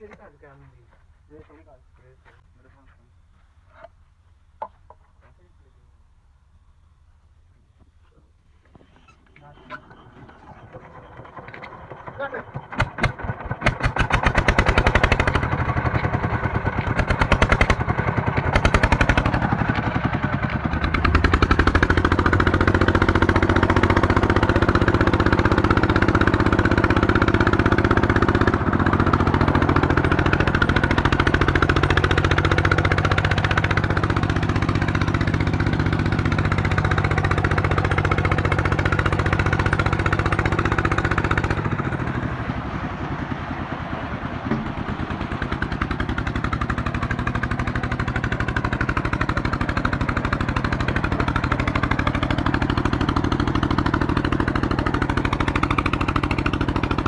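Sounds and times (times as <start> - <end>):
small diesel pump engine running: 8.7 - 57.0.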